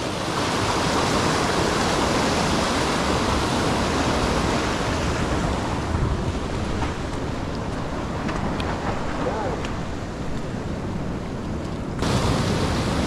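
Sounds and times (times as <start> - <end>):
sea surf washing over rocks: 0.0 - 13.0.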